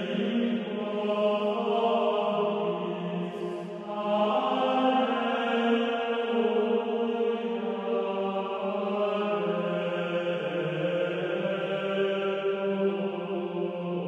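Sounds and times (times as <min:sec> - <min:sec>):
slow sacred chant: 0:00.0 - 0:14.0.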